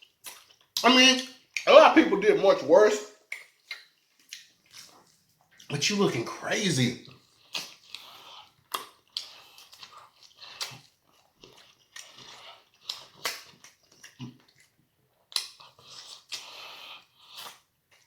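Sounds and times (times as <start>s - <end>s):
person chewing and smacking: 0.0s - 1.8s, 3.2s - 5.7s, 7.0s - 18.0s.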